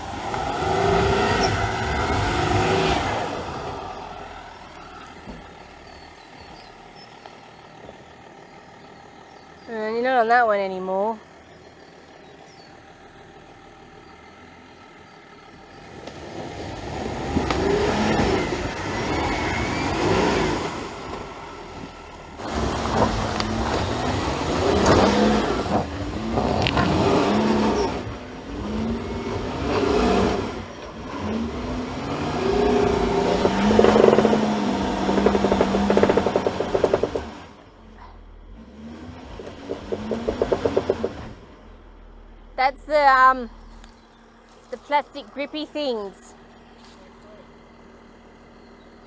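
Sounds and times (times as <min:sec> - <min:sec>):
engine revving under load: 0:00.0 - 0:09.7, 0:13.5 - 0:49.0.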